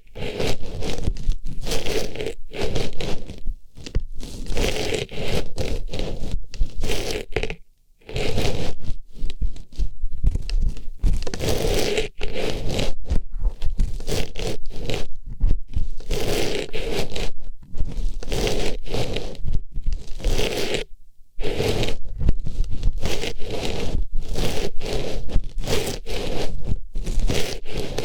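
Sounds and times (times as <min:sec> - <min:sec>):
scratchy rustling on microphone: 0:00.0 - 0:28.0.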